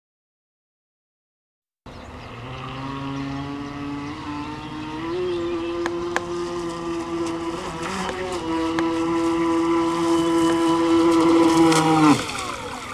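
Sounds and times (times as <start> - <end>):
electric boat motor whine: 1.9 - 12.9.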